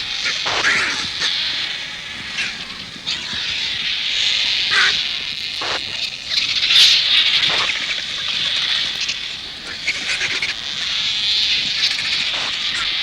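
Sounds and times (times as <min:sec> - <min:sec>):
vultures calling harshly: 0:00.0 - 0:13.0.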